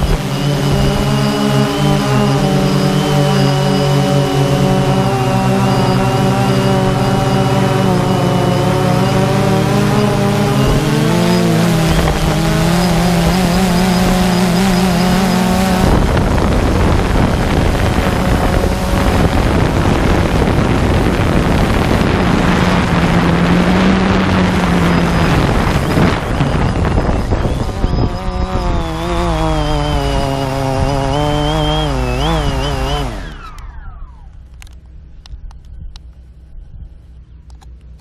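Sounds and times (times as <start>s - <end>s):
drone propellers buzzing: 0.0s - 38.0s
rotor wash and wind noise: 0.0s - 38.0s.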